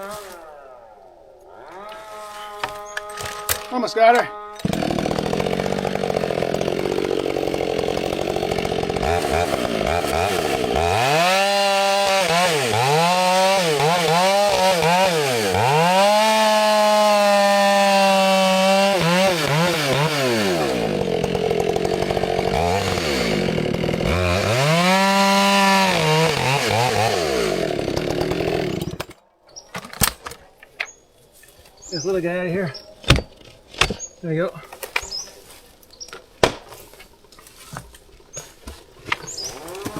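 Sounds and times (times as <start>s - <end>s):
chainsaw cutting wood: 0.0s - 29.3s, 33.0s - 35.6s, 36.4s - 39.9s.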